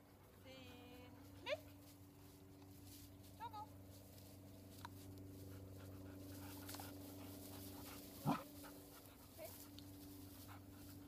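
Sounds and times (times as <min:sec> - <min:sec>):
dogs panting: 0:00.0 - 0:02.8, 0:04.8 - 0:11.0.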